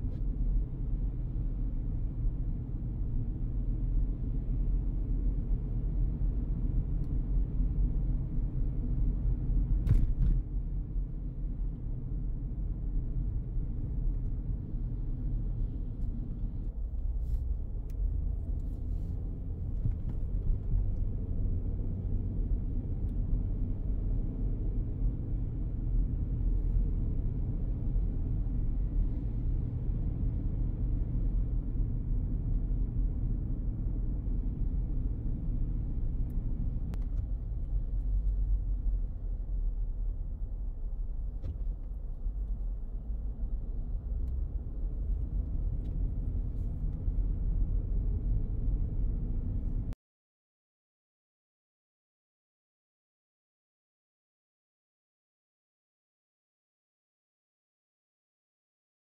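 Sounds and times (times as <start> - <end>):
engine and tyre rumble: 0.0 - 50.0.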